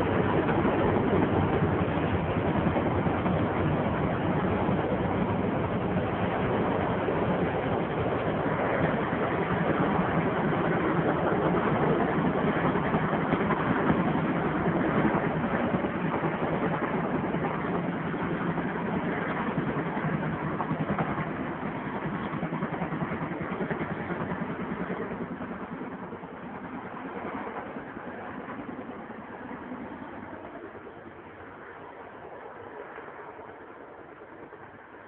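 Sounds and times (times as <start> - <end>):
helicopters flying past: 0.0 - 35.0.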